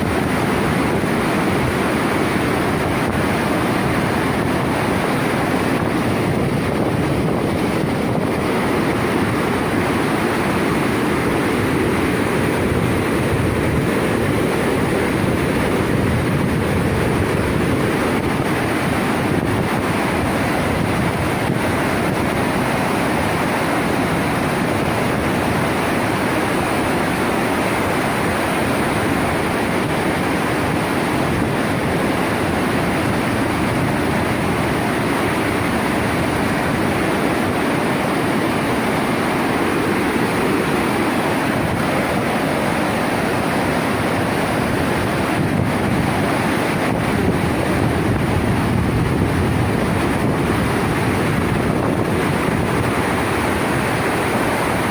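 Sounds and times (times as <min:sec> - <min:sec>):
floodwater rushing: 0:00.0 - 0:54.9.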